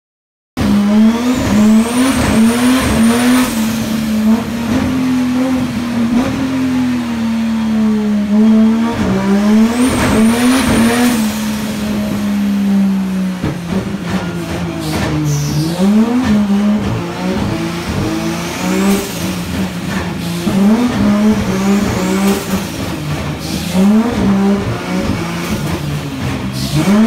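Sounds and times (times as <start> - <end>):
car engine revving under load: 0.6 - 27.0.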